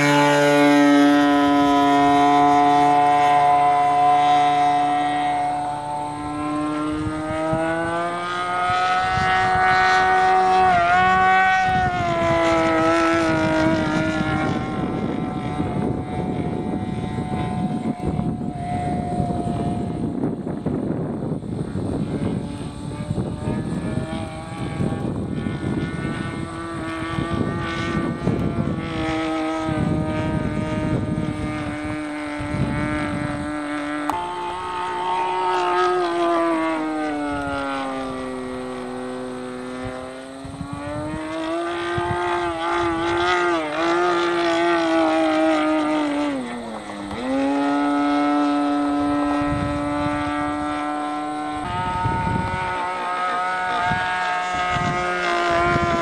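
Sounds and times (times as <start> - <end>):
model airplane engine running: 0.0 - 56.0
wind rumbling on microphone: 0.0 - 56.0.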